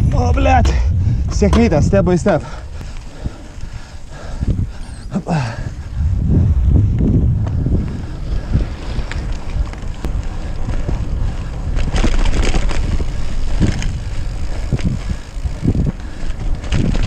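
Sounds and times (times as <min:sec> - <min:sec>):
bicycle tyre noise: 0:00.0 - 0:17.0
wind buffeting microphone: 0:00.0 - 0:17.0.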